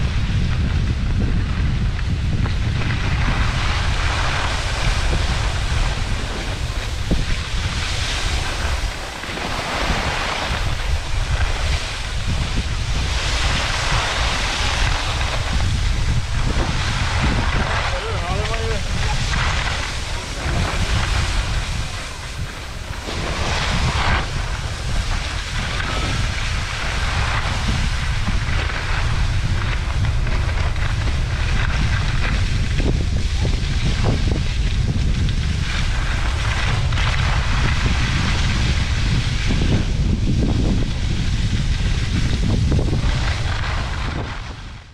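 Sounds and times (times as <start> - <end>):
skis hissing and scraping on snow: 0.0 - 44.9
wind buffeting microphone: 0.0 - 44.9.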